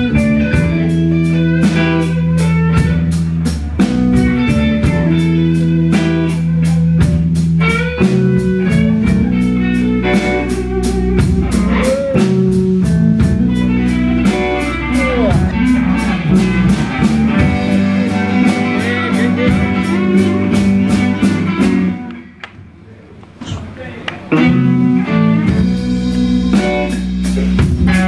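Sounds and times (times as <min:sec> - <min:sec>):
steady drum beat: 0:00.0 - 0:22.0, 0:24.3 - 0:28.0
bass guitar: 0:00.0 - 0:28.0
electric guitars: 0:00.0 - 0:28.0.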